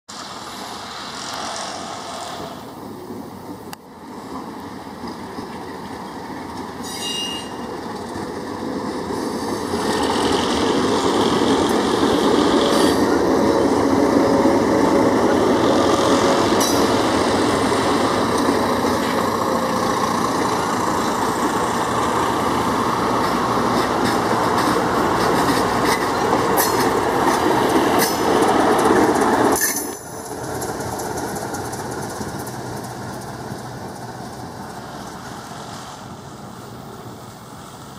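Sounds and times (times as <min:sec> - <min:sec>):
passenger train passing: 0:00.1 - 0:37.9
wheels rumbling on rail: 0:00.1 - 0:37.9.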